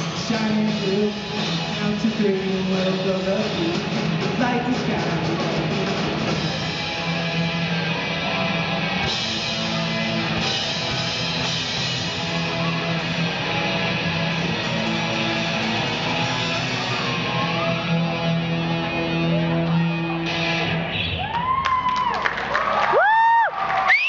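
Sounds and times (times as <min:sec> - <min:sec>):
electric guitar strumming: 0:00.0 - 0:21.2
drums: 0:00.0 - 0:24.0.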